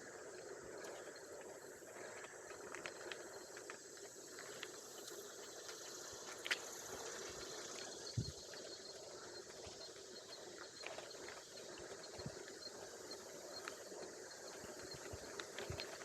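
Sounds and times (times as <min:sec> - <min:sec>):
bike tyres hissing on path: 0:00.0 - 0:16.0.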